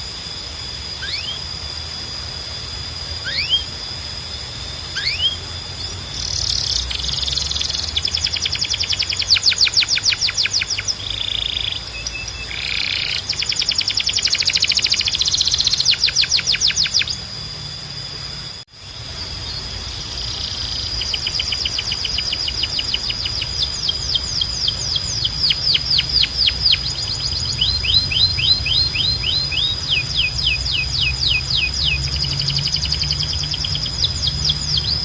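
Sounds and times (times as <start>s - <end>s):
canary singing: 0.8s - 2.1s, 3.0s - 35.0s.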